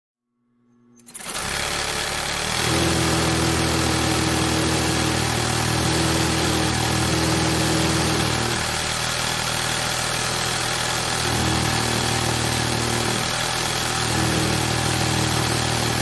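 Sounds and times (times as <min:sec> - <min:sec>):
sewing machine running: 0:01.0 - 0:16.0.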